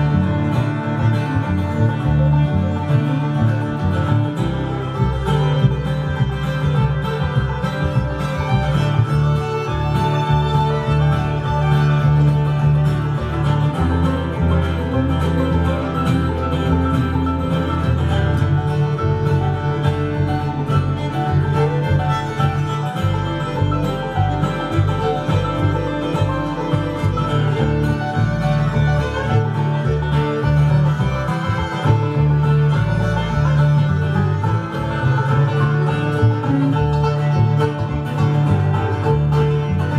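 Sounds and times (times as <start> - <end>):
banjo: 0.0 - 39.9
fiddle: 0.0 - 39.9
guitar: 0.0 - 39.9
pulsing bass line: 0.0 - 39.9.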